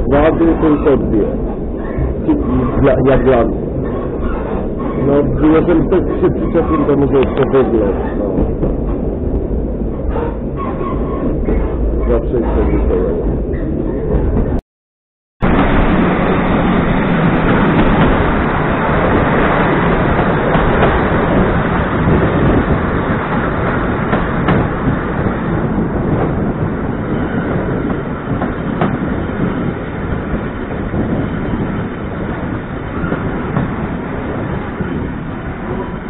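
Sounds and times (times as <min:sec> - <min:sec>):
train wheels rumbling on rails: 0:00.0 - 0:14.6, 0:15.4 - 0:36.0.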